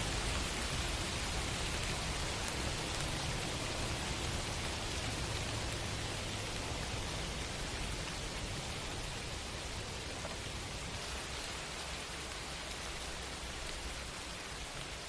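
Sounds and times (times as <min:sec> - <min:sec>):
rain on hard surfaces: 0:00.0 - 0:15.0
raindrop ticks: 0:00.0 - 0:15.0.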